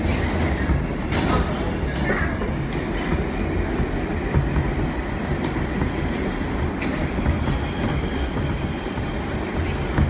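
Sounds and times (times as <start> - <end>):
subway train wheels rumbling on rail: 0.0 - 10.0.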